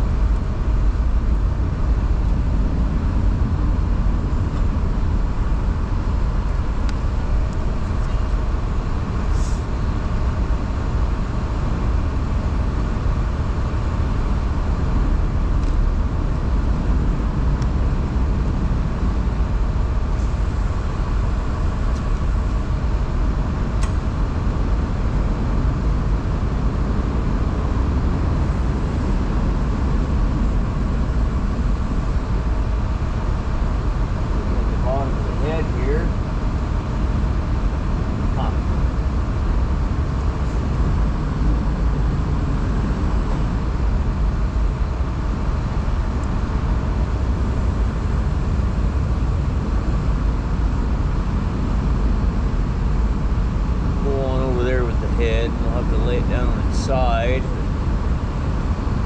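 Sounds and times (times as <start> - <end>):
electric hoist humming: 0.0 - 59.0.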